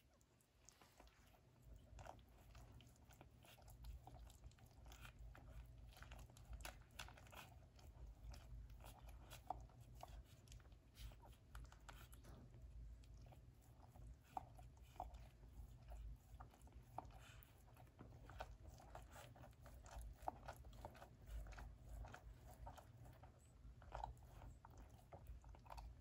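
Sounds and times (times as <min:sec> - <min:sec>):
puppies suckling: 0:00.0 - 0:26.0.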